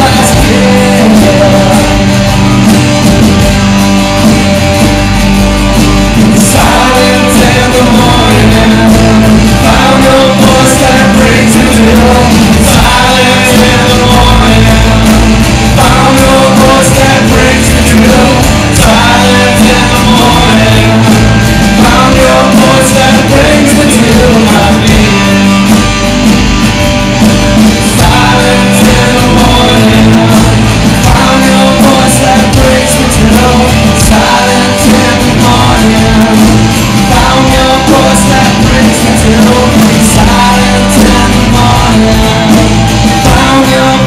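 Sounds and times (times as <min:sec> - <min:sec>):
acoustic guitar: 0:00.0 - 0:44.0
bass guitar: 0:00.0 - 0:44.0
drum kit: 0:00.0 - 0:44.0
electric guitars: 0:00.0 - 0:44.0.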